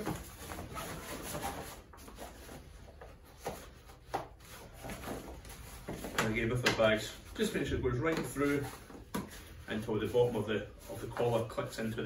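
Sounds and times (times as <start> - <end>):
bagpipe bag rubbing and rustling: 0.0 - 6.4, 8.3 - 11.9.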